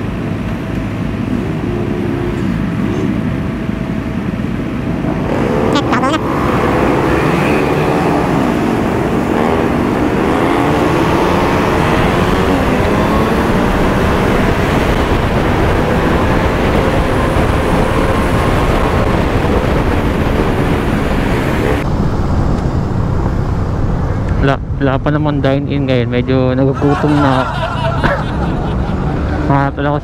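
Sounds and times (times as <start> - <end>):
motorcycle engine accelerating: 0.0 - 24.9
low wind rumble on microphone: 0.0 - 30.0.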